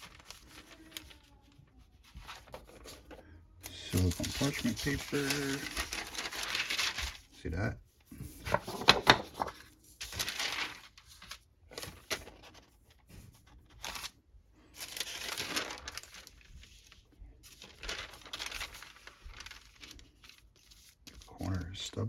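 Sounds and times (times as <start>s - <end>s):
parchment paper rustling: 0.0s - 22.0s.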